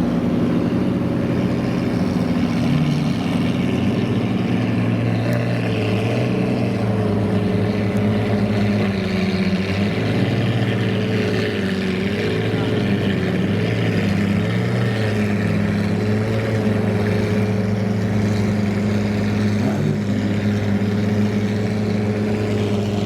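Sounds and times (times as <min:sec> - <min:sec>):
car engines running: 0:00.0 - 0:23.0
higher engine note: 0:00.0 - 0:23.0.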